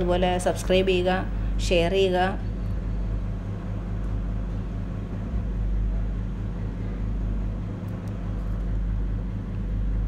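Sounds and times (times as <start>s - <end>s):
machine hum with fast throb: 0.0s - 10.0s.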